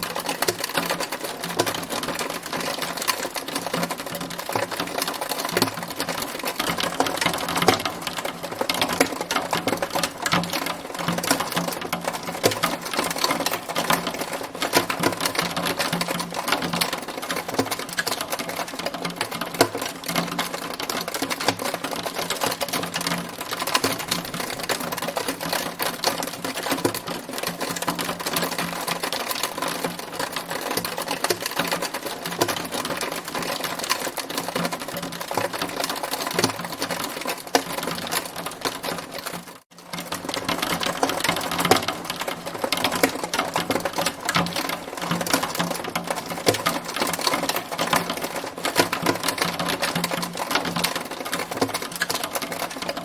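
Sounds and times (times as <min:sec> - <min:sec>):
hailstones clicking: 0:00.0 - 0:53.0.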